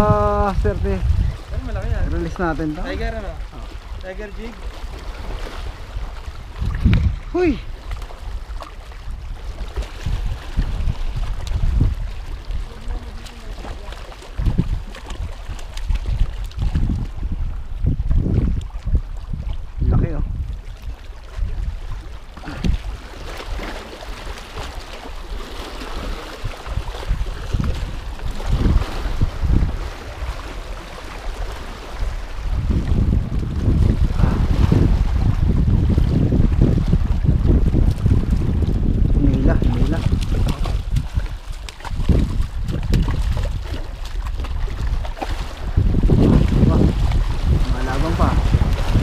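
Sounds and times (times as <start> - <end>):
wind rumbling on microphone: 0.0 - 49.0
sea water sloshing against rocks: 0.6 - 49.0.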